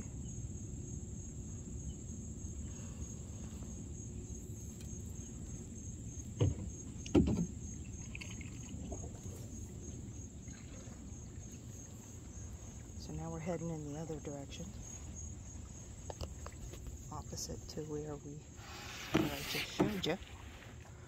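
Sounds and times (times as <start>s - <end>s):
insects droning: 0.0s - 21.0s
low steady rumble: 0.0s - 21.0s.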